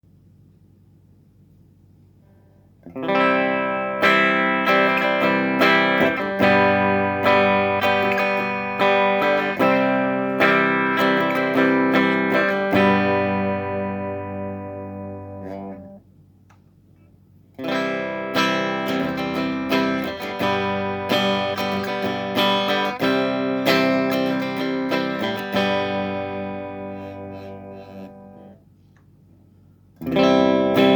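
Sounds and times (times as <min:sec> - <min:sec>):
electric guitar notes and chords: 0:02.8 - 0:16.0, 0:17.6 - 0:28.6, 0:30.0 - 0:30.9.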